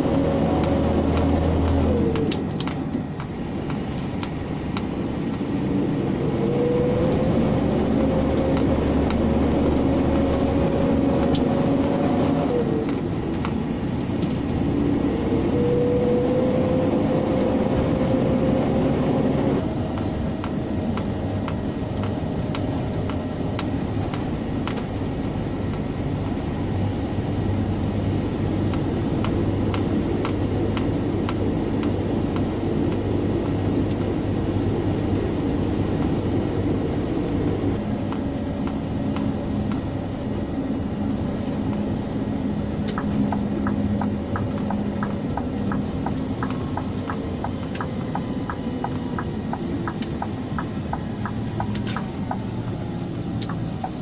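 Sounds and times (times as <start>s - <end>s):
rising engine whine: 0.0s - 54.0s
truck diesel engine drone: 0.0s - 54.0s.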